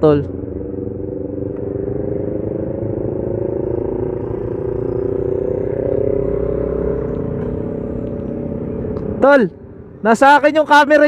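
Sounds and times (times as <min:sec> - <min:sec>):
motorcycle engine at low revs: 0:00.0 - 0:10.2.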